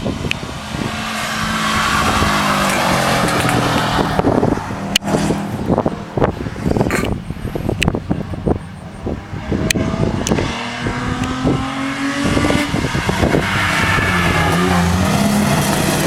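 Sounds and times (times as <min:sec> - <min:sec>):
car passing at speed: 0:00.0 - 0:16.0
wind buffeting microphone: 0:00.0 - 0:16.0.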